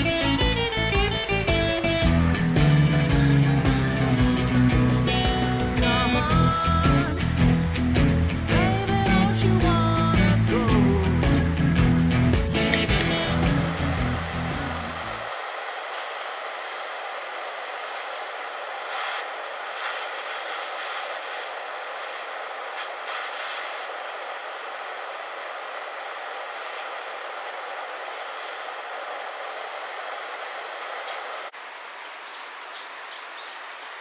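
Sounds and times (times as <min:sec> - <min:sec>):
steady rushing noise: 0:00.0 - 0:32.0.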